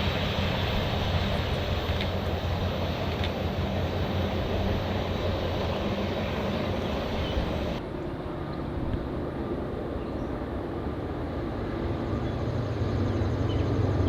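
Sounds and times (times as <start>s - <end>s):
passing train rumble: 0.0s - 14.0s.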